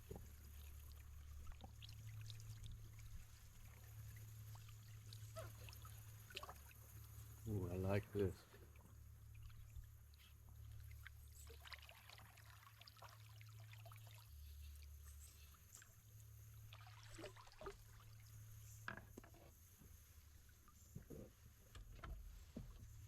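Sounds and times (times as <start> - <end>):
paddle dipping and dripping: 0.0 - 7.6, 8.4 - 23.0
water splashing and trickling: 0.0 - 21.1
low steady hum: 0.0 - 23.0.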